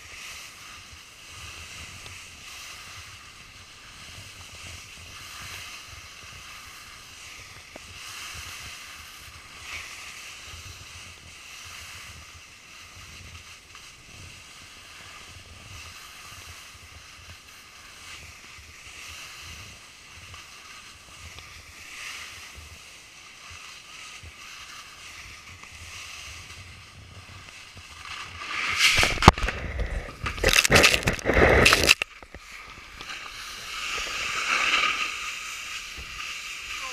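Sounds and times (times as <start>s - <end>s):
snowboard sliding over snow: 0.0s - 36.9s.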